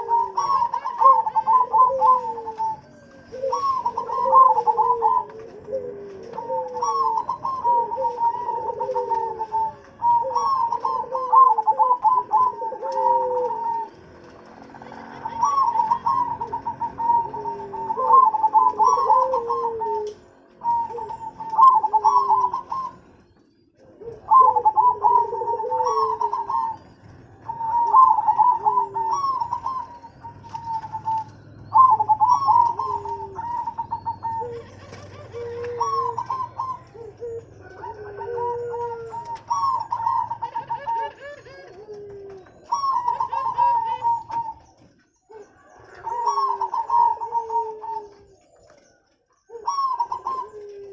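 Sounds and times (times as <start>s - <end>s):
doves cooing: 0.0s - 50.9s.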